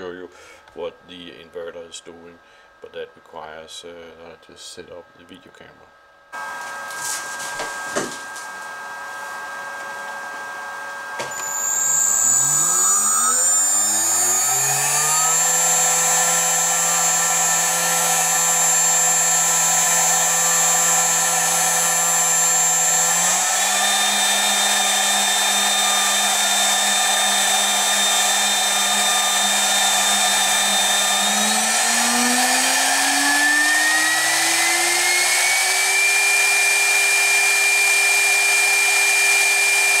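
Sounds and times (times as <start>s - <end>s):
high inverter whine: 0.0s - 40.0s
spindle motor whine: 6.4s - 40.0s.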